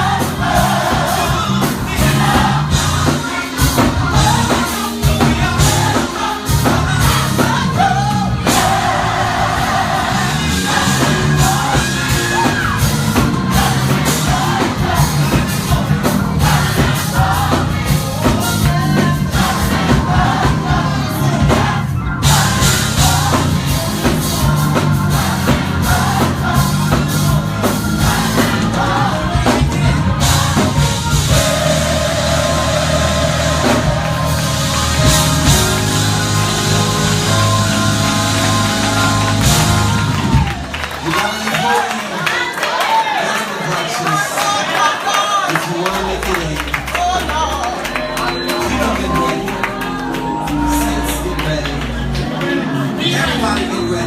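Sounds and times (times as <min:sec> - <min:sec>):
band with bass and drums: 0:00.0 - 0:41.8, 0:46.0 - 0:54.0
gospel choir singing: 0:00.0 - 0:54.0.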